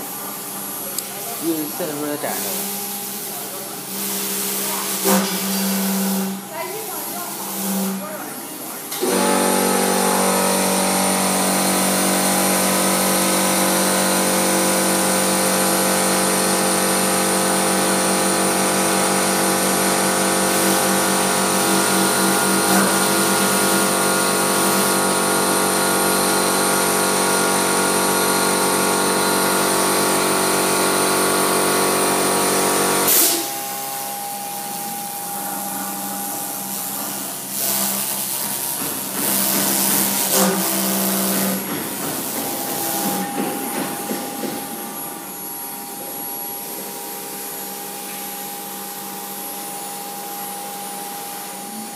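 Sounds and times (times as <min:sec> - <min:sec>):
cnc router spindle whining: 0:01.4 - 0:51.9.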